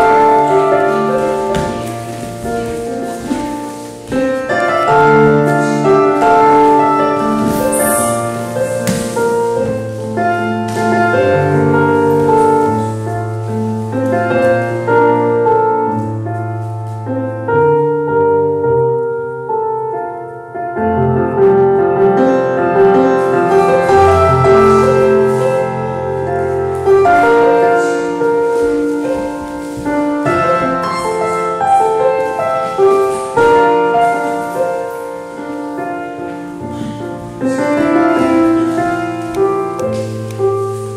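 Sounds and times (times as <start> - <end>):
slow piano music: 0.0 - 40.9.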